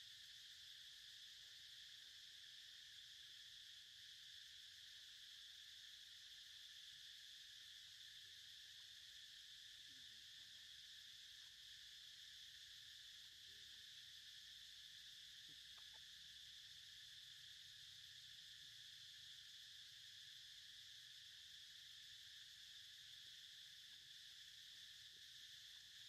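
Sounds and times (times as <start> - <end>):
faint insect chorus: 0.0 - 26.0.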